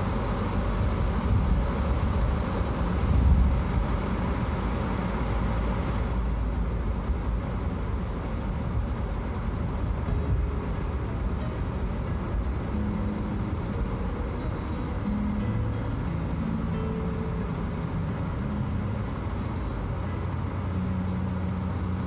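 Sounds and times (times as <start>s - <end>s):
car cabin road rumble: 0.0s - 22.0s
tyres hissing on wet pavement: 0.0s - 22.0s.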